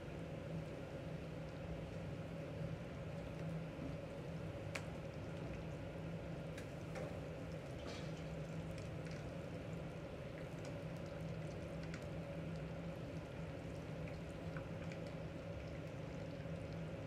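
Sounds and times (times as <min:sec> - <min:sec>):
steady low hum: 0:00.0 - 0:17.0
food bubbling and crackling: 0:00.6 - 0:17.0.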